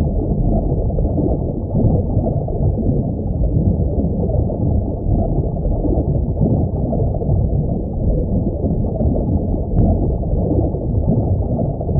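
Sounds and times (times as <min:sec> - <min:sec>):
underwater rumble and wash: 0:00.0 - 0:11.9.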